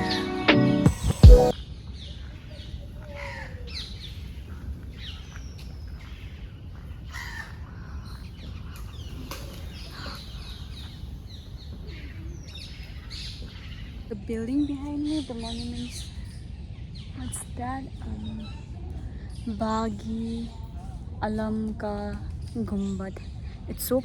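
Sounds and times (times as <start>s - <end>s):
birds chirping and cawing: 1.2s - 21.6s.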